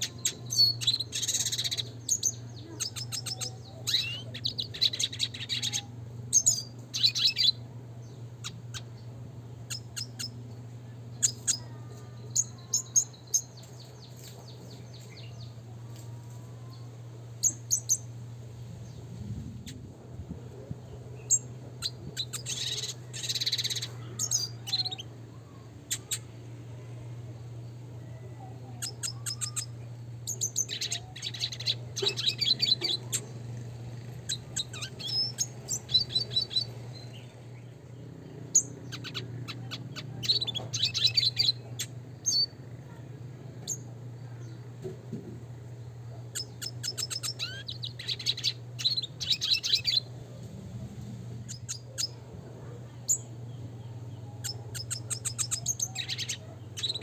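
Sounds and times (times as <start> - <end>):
bird twittering chirps: 0.0 - 15.6, 17.4 - 18.2, 20.8 - 26.9, 27.5 - 42.6, 43.6 - 44.6, 45.7 - 50.1, 51.4 - 52.2, 53.0 - 57.0.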